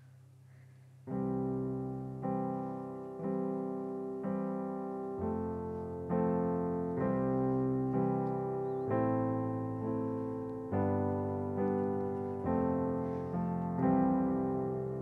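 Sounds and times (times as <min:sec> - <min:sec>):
faint low hum: 0:00.0 - 0:15.0
piano chords: 0:01.0 - 0:15.0.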